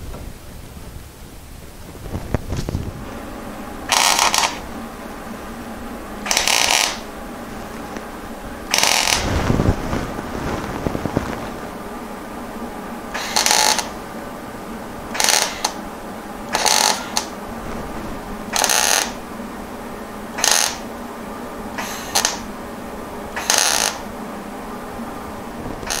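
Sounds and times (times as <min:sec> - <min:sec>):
welder arc crackling: 0:00.0 - 0:26.0.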